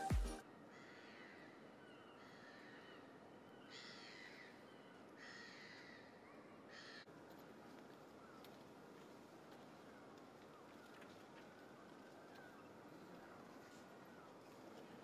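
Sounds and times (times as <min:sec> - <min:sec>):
faint bird calls: 0:00.0 - 0:08.7, 0:09.6 - 0:15.0
faint outdoor hiss: 0:00.0 - 0:15.0.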